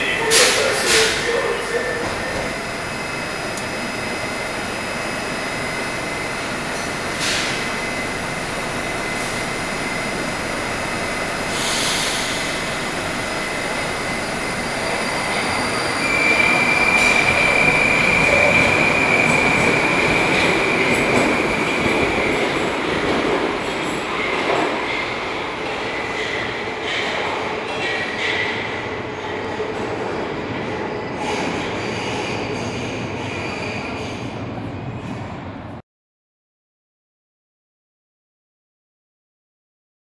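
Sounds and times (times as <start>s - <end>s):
train humming: 0.0s - 35.8s.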